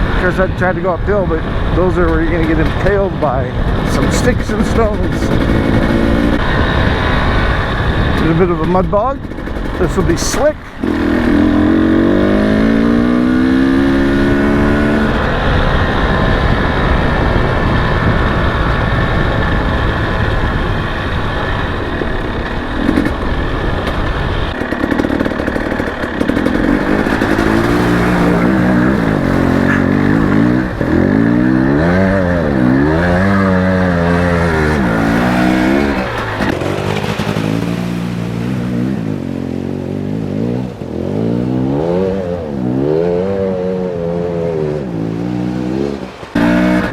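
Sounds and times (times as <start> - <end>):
steady rushing noise: 0.0 - 40.9, 46.0 - 46.9
dirt bike engine revving: 0.0 - 46.9.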